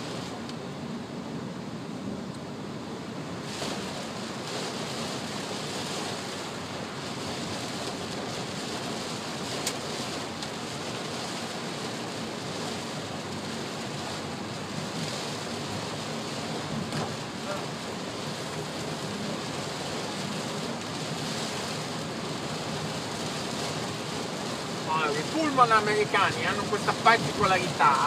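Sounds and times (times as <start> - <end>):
heavy rain on car: 0.0 - 28.0
tyre hiss on wet road: 3.4 - 28.0.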